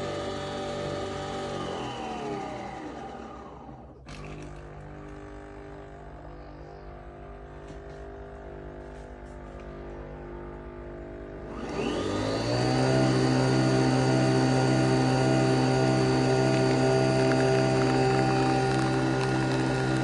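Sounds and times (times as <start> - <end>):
coffee machine motor whining: 0.0 - 20.0.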